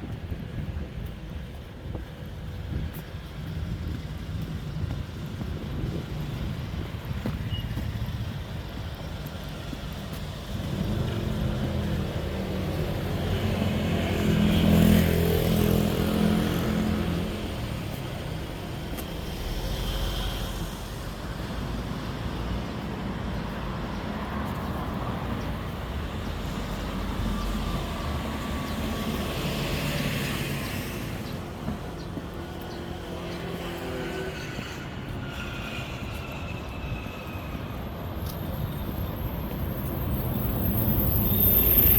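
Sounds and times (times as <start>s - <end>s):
road noise rumble: 0.0s - 41.9s.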